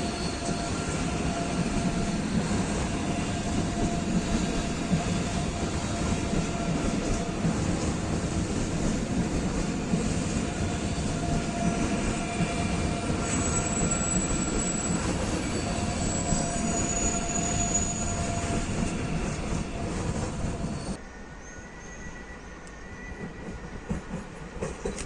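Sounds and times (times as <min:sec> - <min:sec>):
high wheel squeals: 0:00.0 - 0:08.0, 0:09.3 - 0:23.9
train rolling rumble: 0:00.0 - 0:21.0, 0:22.6 - 0:25.0.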